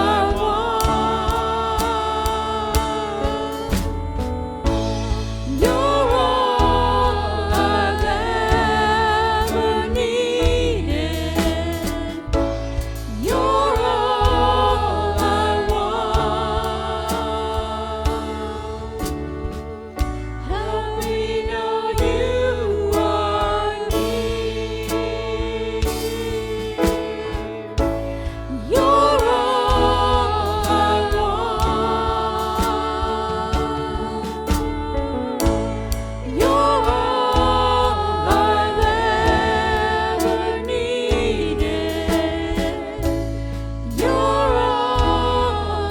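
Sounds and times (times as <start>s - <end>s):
instrumental accompaniment: 0.0s - 45.9s
voices singing worship song: 0.0s - 45.9s.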